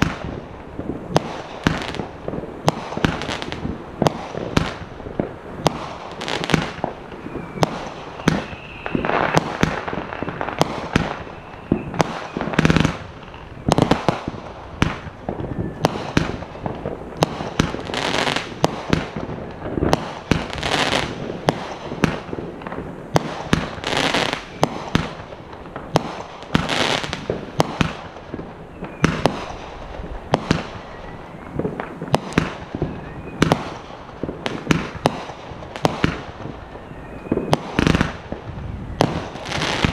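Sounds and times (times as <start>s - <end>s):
fireworks launching and bursting: 0.0s - 39.9s.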